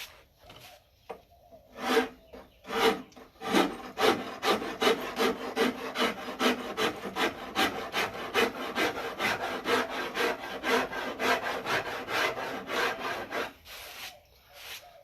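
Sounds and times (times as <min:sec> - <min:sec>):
hand rasp on wood: 0:01.7 - 0:14.0.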